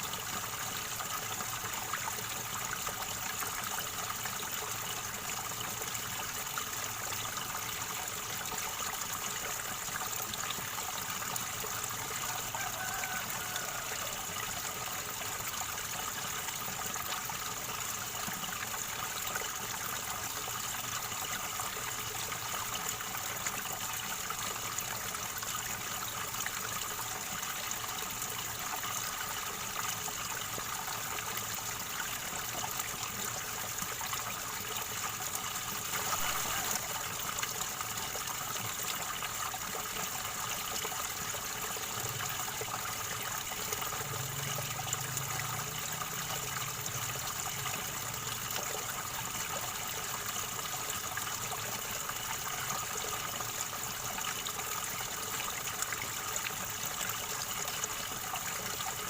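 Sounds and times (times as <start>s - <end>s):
river water gurgling over stones: 0.0s - 59.0s.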